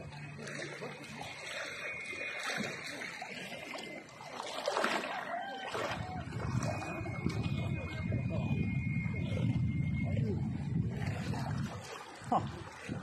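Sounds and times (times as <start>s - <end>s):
loud splash close by: 0.0s - 9.5s, 10.2s - 13.0s
water splashing as people wade: 0.0s - 13.0s.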